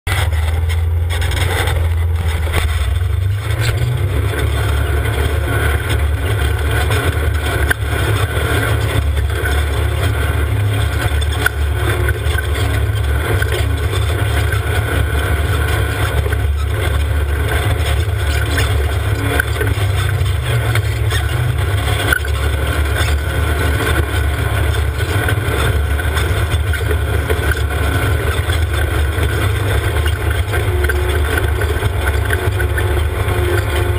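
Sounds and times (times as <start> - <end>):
vehicle engine droning: 0.0 - 33.9.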